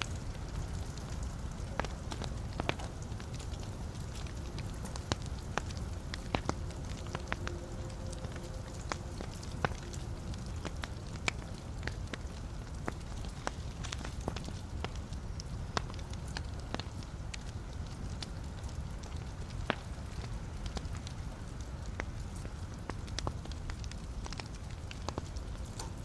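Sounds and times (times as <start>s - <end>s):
fire flames rushing: 0.0s - 26.0s
logs popping and crackling: 0.0s - 26.0s.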